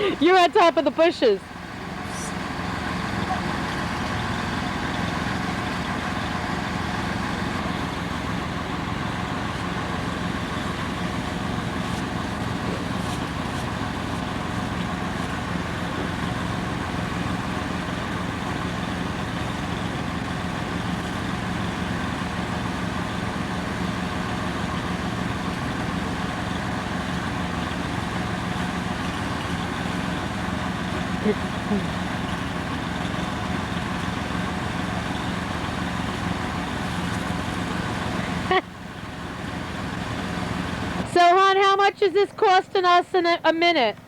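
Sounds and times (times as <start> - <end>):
snowblower engine running: 0.0 - 44.0.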